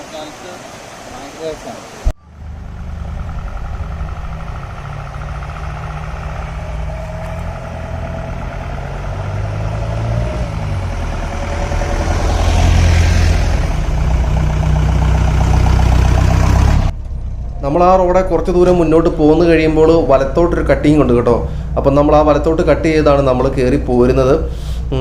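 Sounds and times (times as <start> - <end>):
diesel jeep engine running: 2.2 - 25.0.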